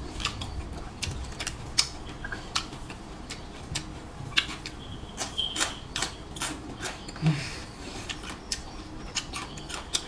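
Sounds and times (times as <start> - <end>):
person chewing with smacks: 0.0 - 10.0.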